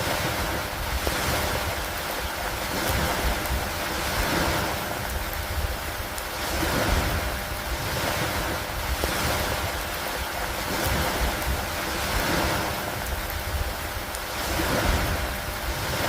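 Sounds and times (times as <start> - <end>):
low rumble of wind: 0.0 - 16.0
steady rain hissing: 0.0 - 16.0.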